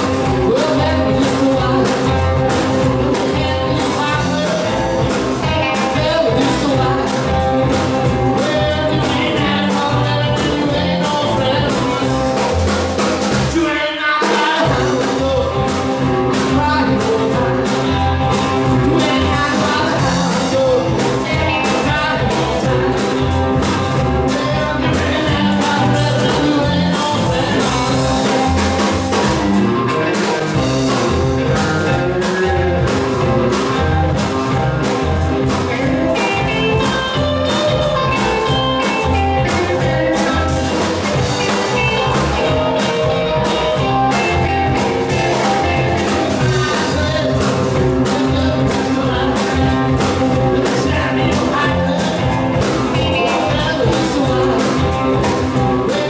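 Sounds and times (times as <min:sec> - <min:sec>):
lead electric guitar: 0:00.0 - 0:56.0
rockabilly band playing: 0:00.0 - 0:56.0.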